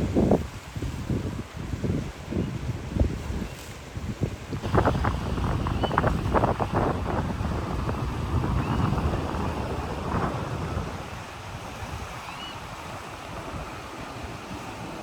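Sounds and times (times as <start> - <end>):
surf washing against rocky beach: 0.0 - 15.0
wind buffeting microphone: 0.0 - 15.0.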